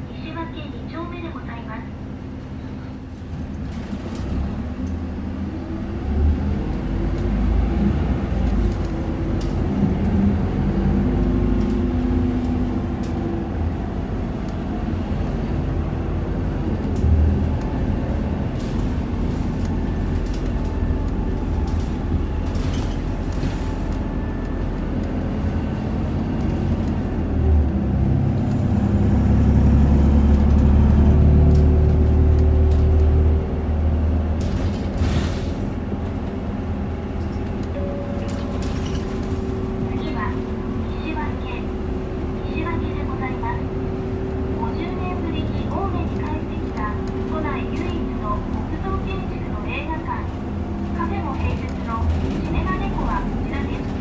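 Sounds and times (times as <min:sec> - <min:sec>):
bus engine rumble: 0:00.0 - 0:54.0
road noise: 0:00.0 - 0:54.0.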